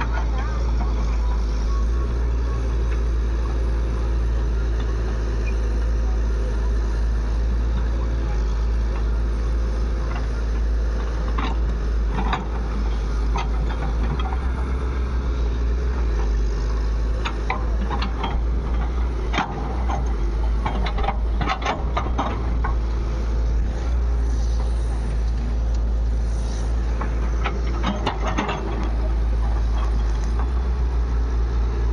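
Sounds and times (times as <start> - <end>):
diesel engine droning: 0.0 - 31.9.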